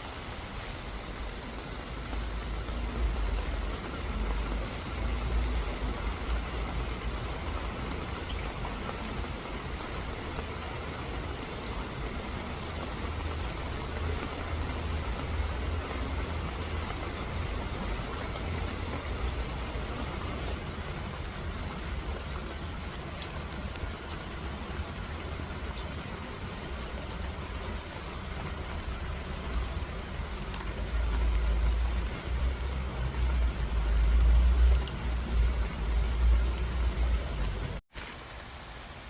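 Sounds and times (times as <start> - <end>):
rain pattering on surfaces: 0.0 - 39.0.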